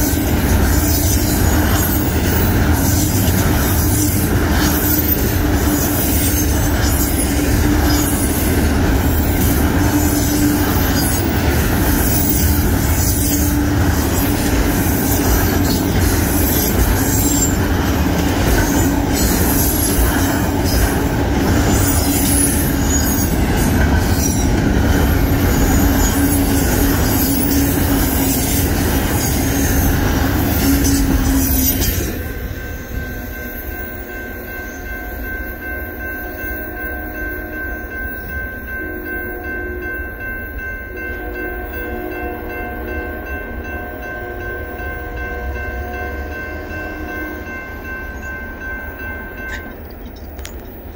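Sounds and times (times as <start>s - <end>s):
crossing bell ringing: 0.0s - 50.9s
freight train wheels rumbling: 0.0s - 50.9s.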